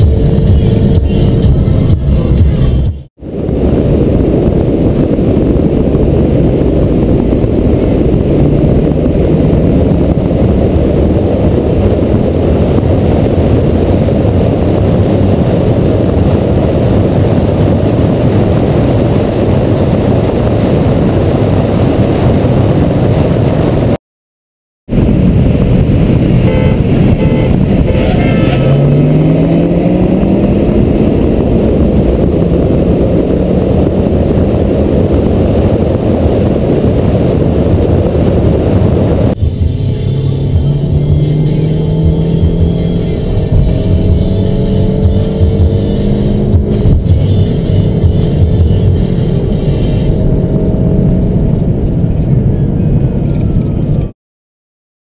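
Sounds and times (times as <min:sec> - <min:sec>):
car engine: 0:00.0 - 0:24.0, 0:24.9 - 0:54.1
wind and road noise: 0:00.0 - 0:24.0, 0:24.8 - 0:54.2.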